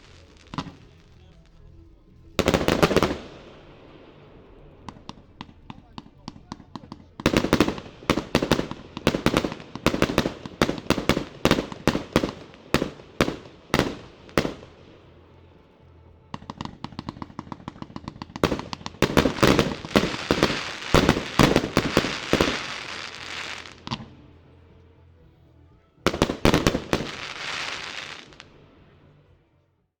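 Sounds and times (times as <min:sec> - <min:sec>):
fireworks launches and bangs: 0:00.0 - 0:15.0, 0:16.3 - 0:24.2, 0:26.1 - 0:28.6
fireworks crackle: 0:00.0 - 0:24.9, 0:26.1 - 0:29.0.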